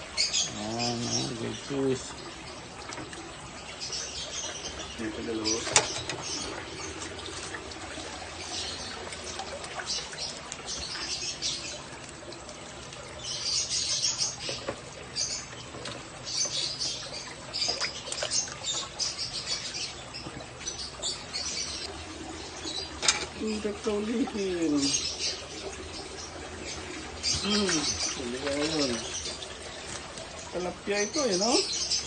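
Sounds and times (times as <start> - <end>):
water splashing and dripping: 0.0 - 32.0.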